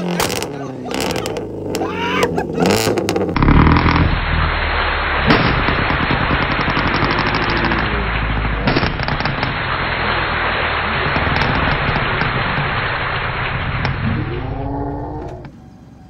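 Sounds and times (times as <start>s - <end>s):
exhaust pops and bangs: 0.0s - 14.6s
low engine rumble: 0.0s - 16.0s.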